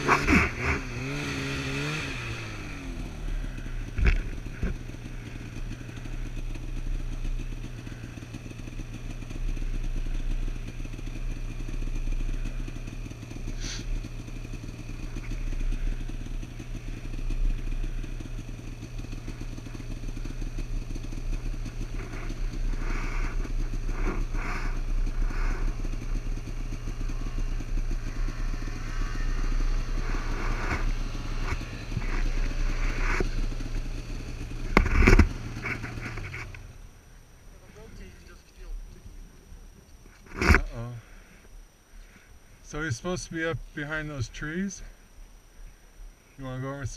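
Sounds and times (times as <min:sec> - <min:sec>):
snowmobile engine idling: 0:00.0 - 0:46.9.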